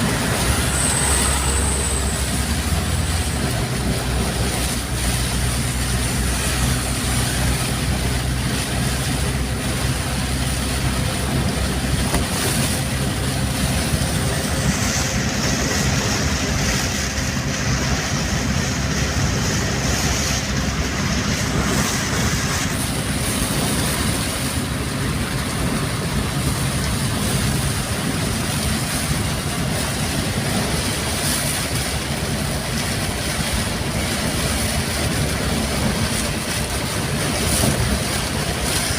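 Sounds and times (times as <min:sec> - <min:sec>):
heavy rain: 0:00.0 - 0:38.9
low vehicle drone: 0:00.0 - 0:38.9
strong wind: 0:00.0 - 0:38.9.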